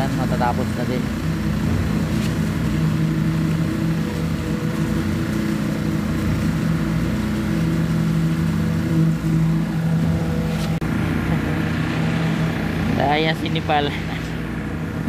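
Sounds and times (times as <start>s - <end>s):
heavy engine droning: 0.0s - 15.0s.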